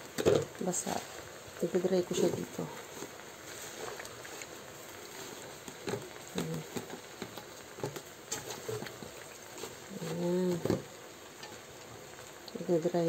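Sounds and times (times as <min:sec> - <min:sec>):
leaves sizzling in oil: 0:00.0 - 0:13.0.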